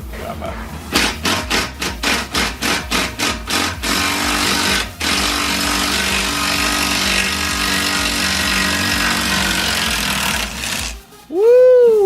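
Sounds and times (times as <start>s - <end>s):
power tool humming and hissing: 0.9s - 11.1s.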